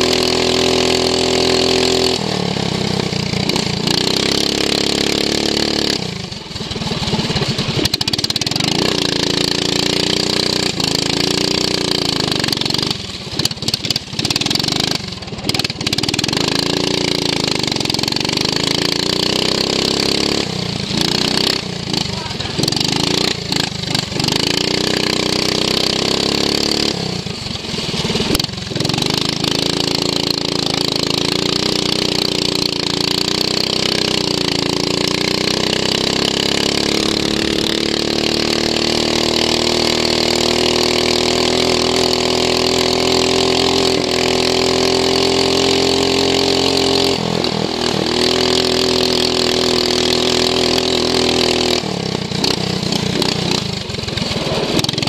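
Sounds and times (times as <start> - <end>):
lawn mower engine running hard: 0.0 - 55.0.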